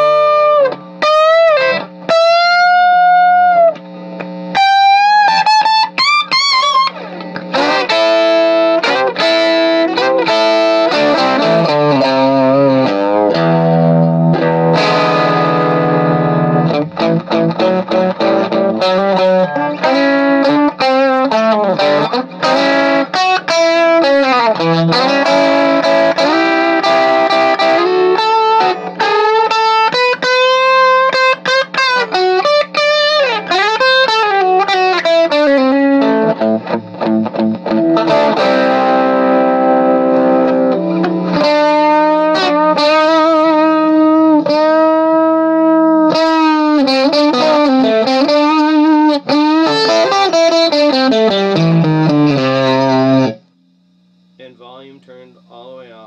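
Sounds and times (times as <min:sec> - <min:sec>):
electric guitar chords: 0:00.0 - 0:56.0
electric guitar lead lines: 0:00.0 - 0:56.0.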